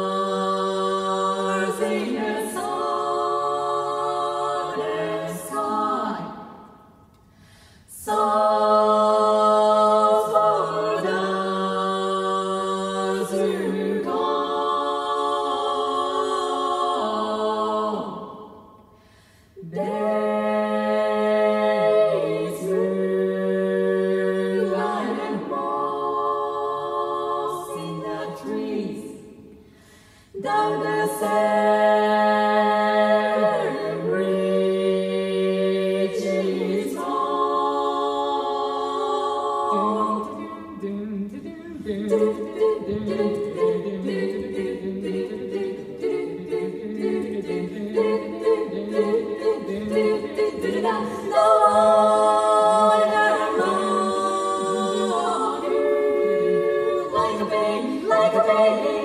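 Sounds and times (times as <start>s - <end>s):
women singing in close harmony: 0.0s - 7.1s, 7.8s - 19.0s, 19.6s - 29.7s, 30.3s - 59.0s.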